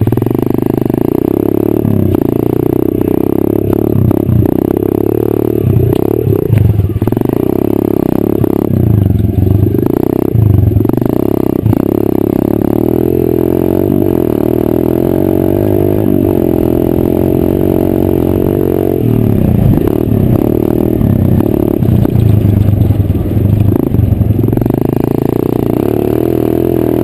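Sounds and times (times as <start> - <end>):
small motorbike engine revving: 0.0 - 27.0.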